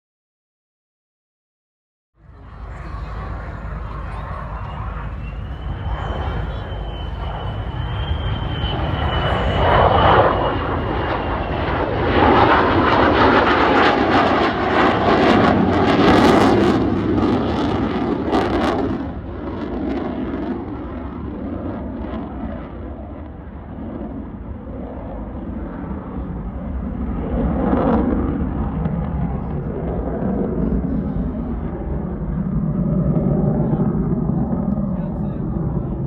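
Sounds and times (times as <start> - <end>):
jet engine roar: 2.2 - 36.0.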